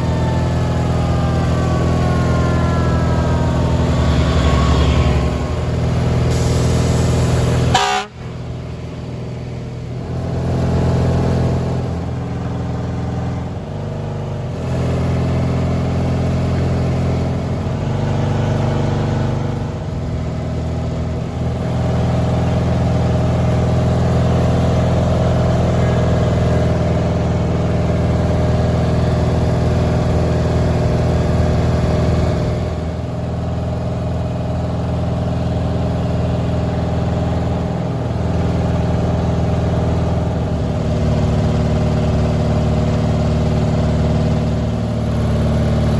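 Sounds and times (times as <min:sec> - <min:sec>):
lawn mower engines running: 0:00.0 - 0:45.9.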